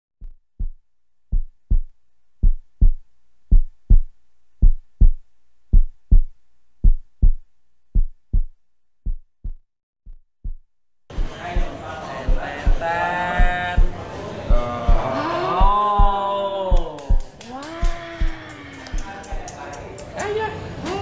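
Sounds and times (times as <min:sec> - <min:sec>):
heartbeat thumps: 0:00.2 - 0:19.5.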